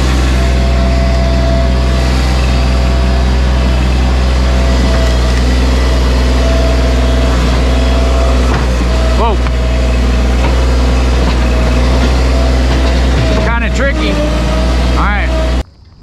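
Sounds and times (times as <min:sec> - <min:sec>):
diesel engine running: 0:00.0 - 0:15.6.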